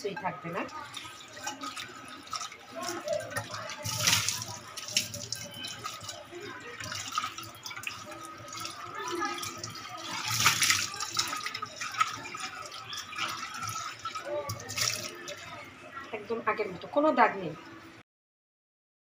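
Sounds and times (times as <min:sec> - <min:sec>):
water sloshing and splashing: 0:00.0 - 0:16.2
tap water running: 0:00.0 - 0:17.1.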